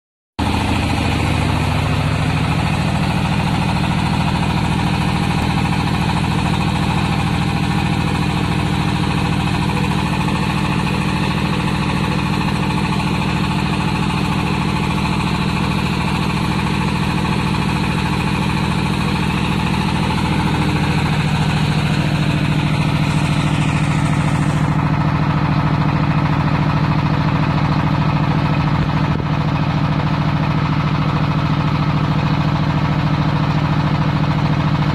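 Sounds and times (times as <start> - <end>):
drilling rig engine humming: 0.4 - 34.9.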